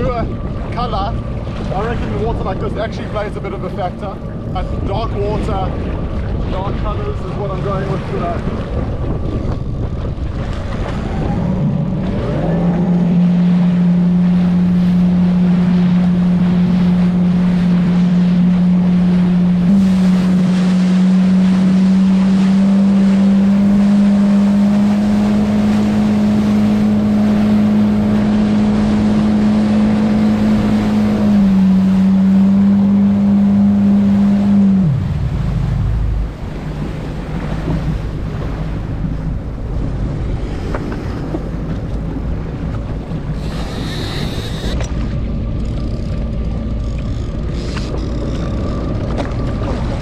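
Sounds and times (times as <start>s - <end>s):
motorboat engine running: 0.0s - 50.0s
wind and water noise: 0.0s - 50.0s.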